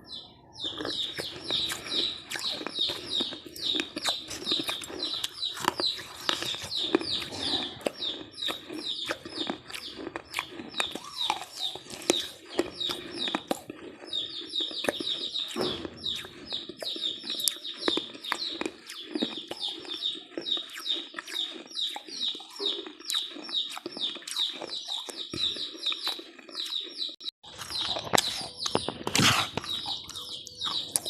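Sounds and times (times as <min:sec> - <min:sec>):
birds chirping: 0:00.0 - 0:31.0
crunchy chewing: 0:00.1 - 0:31.0.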